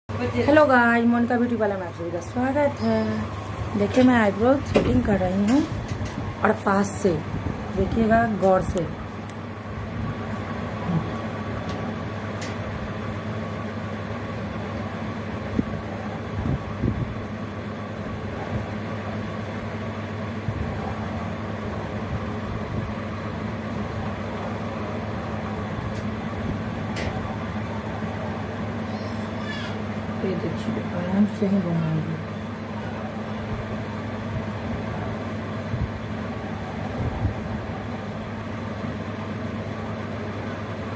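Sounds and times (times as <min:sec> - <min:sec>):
steady mechanical hum: 0:00.1 - 0:40.9.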